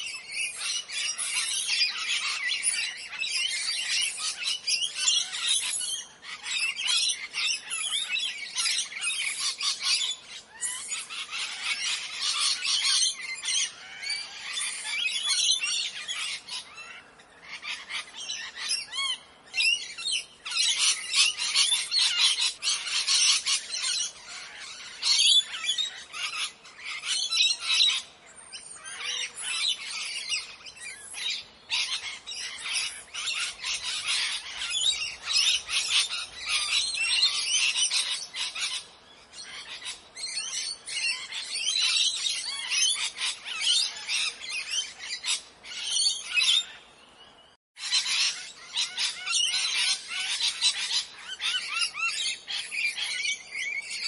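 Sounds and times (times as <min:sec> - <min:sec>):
parrots squawking: 0:06.2 - 0:19.1, 0:20.4 - 0:28.0, 0:28.8 - 0:38.8, 0:39.5 - 0:46.8, 0:47.8 - 0:54.0.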